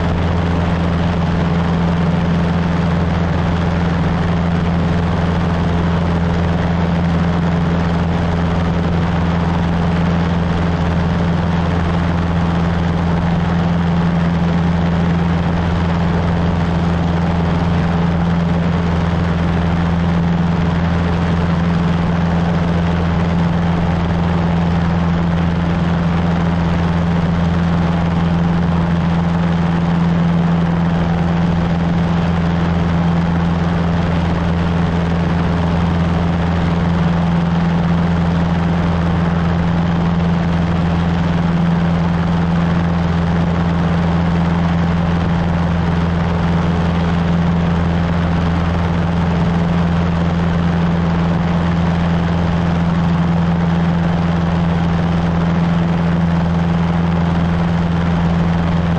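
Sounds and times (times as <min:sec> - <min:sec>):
light aircraft engine droning: 0:00.0 - 0:58.9.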